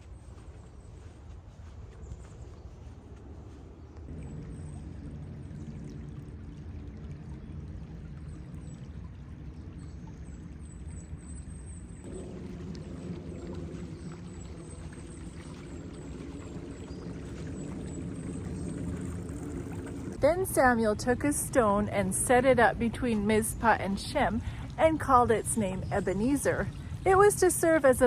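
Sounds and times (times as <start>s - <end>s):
low hum: 0.0s - 28.0s
running water flowing: 4.1s - 28.0s.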